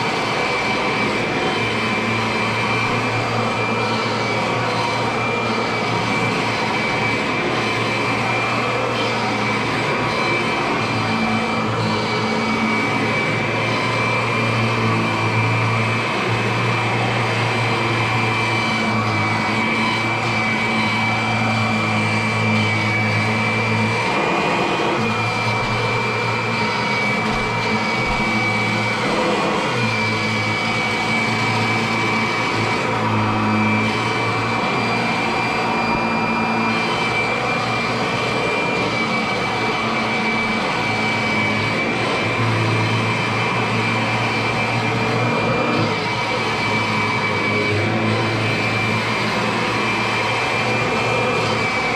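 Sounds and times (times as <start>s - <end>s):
vacuum cleaner motor whine: 0.0s - 51.9s.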